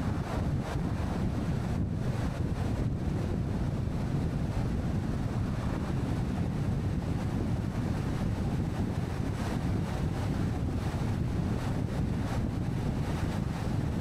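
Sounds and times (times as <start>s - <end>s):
wind and tyre rumble: 0.0s - 14.0s.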